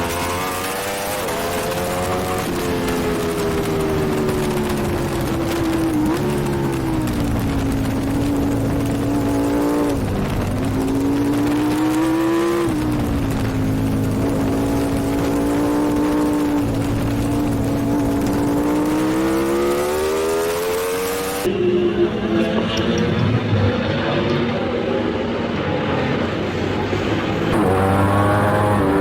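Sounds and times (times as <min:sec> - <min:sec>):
racing motorcycle engine at speed: 0:00.0 - 0:29.0.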